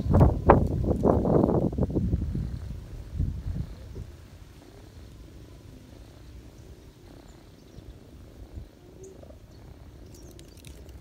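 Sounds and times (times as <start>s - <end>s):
cats purring: 0.0s - 11.0s.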